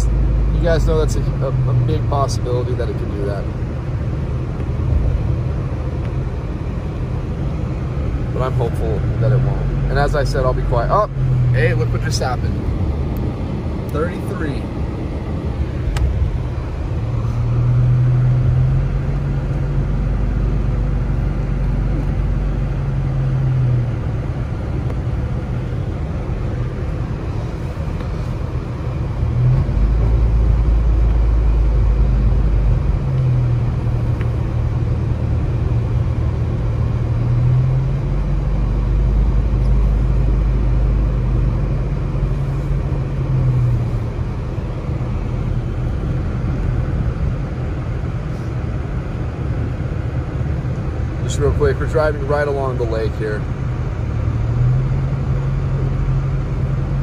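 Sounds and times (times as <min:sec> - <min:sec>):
car engine hum: 0:00.0 - 0:57.0
deep road rumble: 0:00.0 - 0:57.0.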